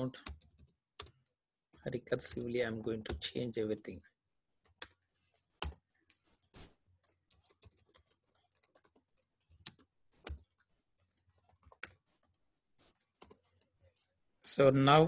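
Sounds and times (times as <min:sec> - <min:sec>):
keyboard typing: 0:00.0 - 0:04.0, 0:04.6 - 0:14.0.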